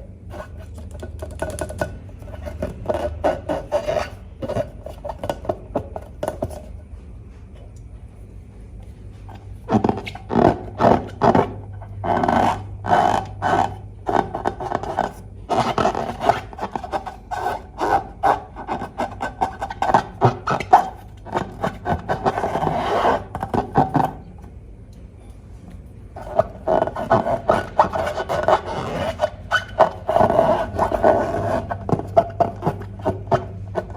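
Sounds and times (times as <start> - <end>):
sticky slime rubbing and rasping: 0.0 - 6.7, 9.3 - 24.3, 26.2 - 33.9.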